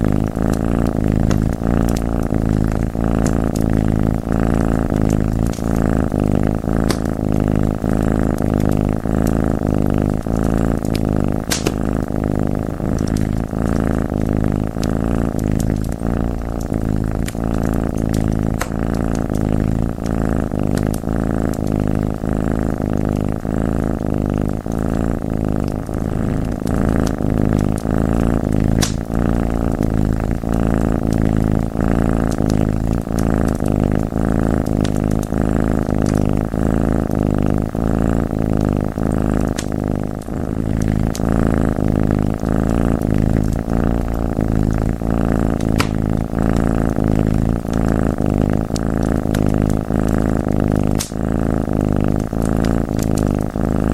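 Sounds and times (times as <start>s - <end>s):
cat purring: 0.0s - 53.9s
wood fire crackling: 0.2s - 22.2s, 23.0s - 36.6s, 38.6s - 41.2s, 41.8s - 51.2s.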